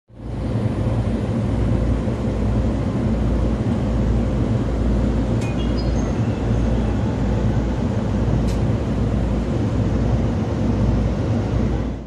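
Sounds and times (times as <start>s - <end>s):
train rumble inside carriage: 0.1s - 12.0s.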